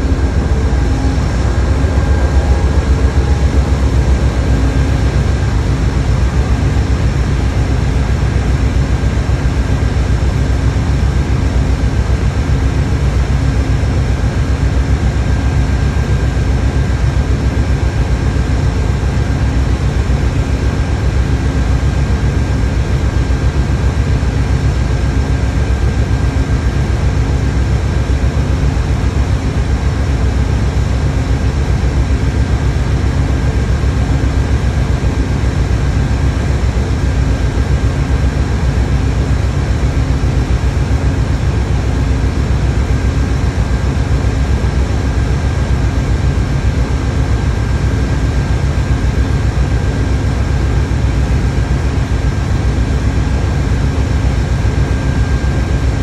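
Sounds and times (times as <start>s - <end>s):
diesel locomotive engine rumble: 0.0s - 56.0s
faint steady whine: 0.0s - 56.0s.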